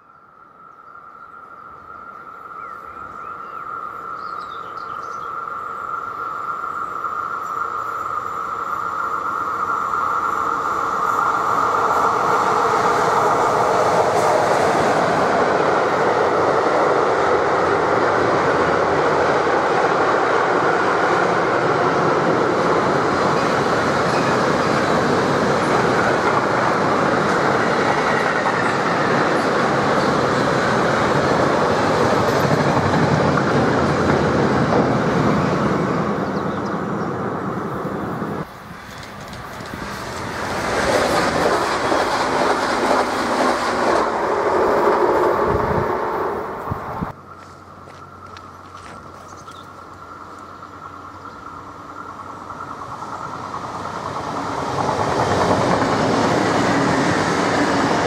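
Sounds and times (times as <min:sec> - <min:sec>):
high tone of approaching train: 0:00.0 - 0:58.0.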